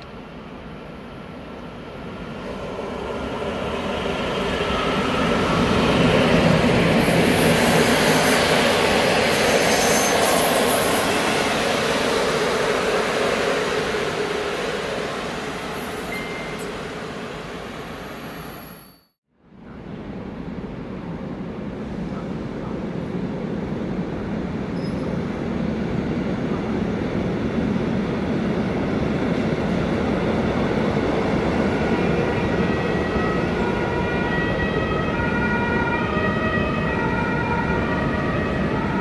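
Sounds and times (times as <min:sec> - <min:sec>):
passenger train passing: 0:00.0 - 0:39.0.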